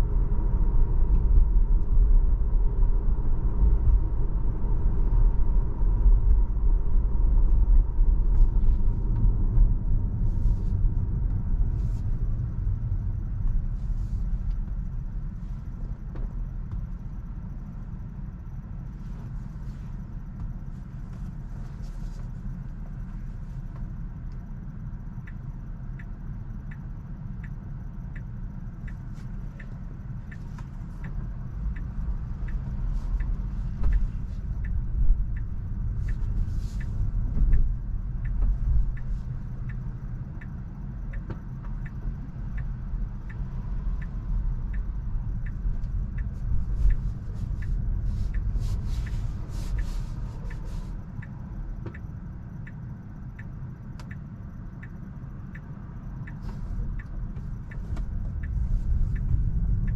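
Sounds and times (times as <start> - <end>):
road and tyre rumble in car: 0.0 - 59.9
turn signal ticking: 0.0 - 59.9.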